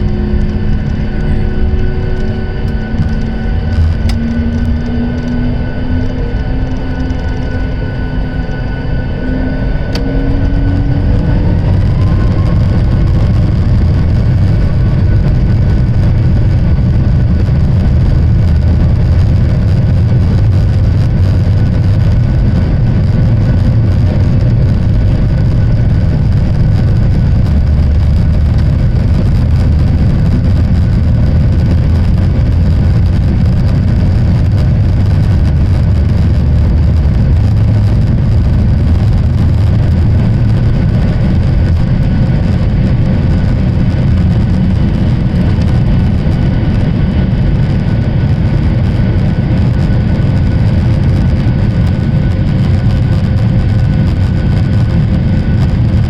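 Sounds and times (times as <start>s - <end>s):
jet engines roaring at high power: 0.0s - 56.0s
rising engine whine: 0.0s - 56.0s.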